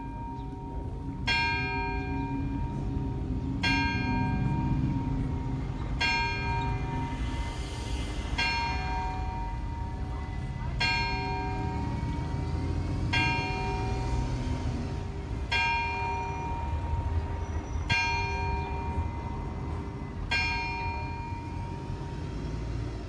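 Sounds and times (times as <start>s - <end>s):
clock bell striking: 0.0s - 23.0s.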